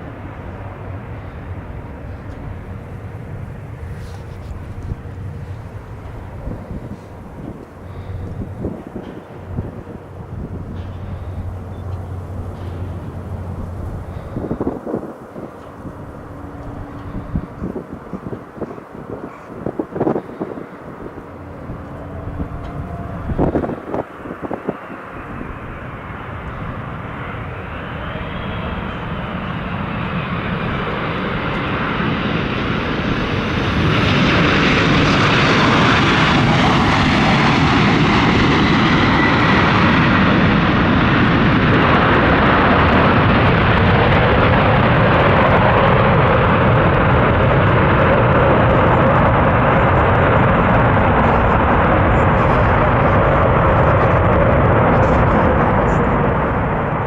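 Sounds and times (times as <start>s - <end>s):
jet engines of landing airliner: 0.0s - 57.0s.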